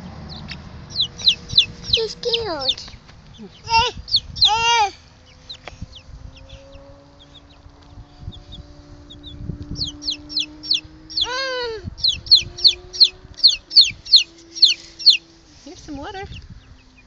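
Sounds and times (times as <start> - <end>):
drawn-out chicken call: 0.0 - 7.7, 8.5 - 15.2
chickens peeping: 0.0 - 17.0.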